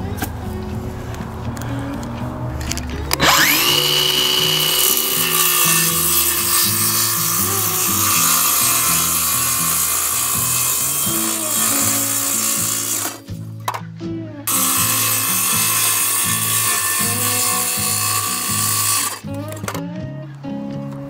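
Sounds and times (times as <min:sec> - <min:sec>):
circular saw cutting board: 0:00.0 - 0:13.8, 0:14.5 - 0:19.8.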